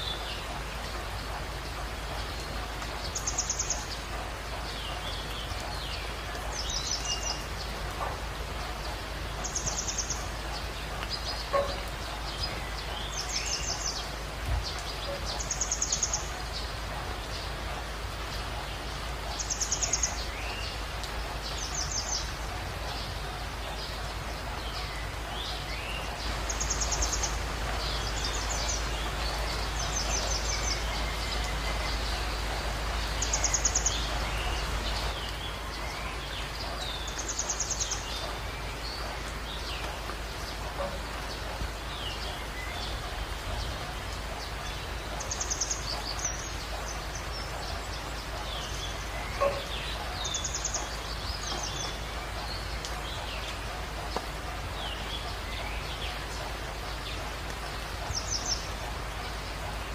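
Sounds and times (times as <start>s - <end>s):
birds trilling and chirping: 0.0s - 59.9s
heavy rain hissing: 0.0s - 59.9s.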